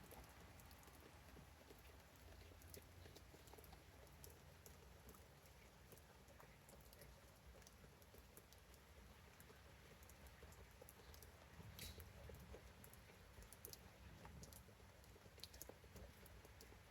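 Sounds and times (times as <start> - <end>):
raindrops ticking: 0.0 - 16.9.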